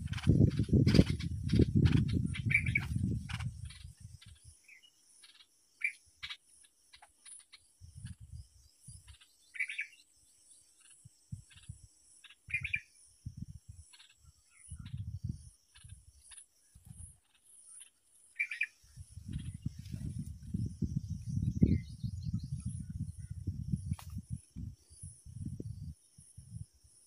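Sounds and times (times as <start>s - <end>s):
bird chirps: 0.0s - 27.0s.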